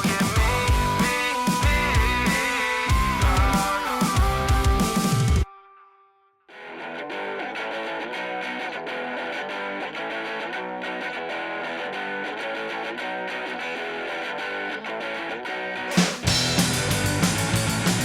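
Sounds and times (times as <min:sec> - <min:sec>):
electric guitar riff with effects: 0:00.0 - 0:18.0.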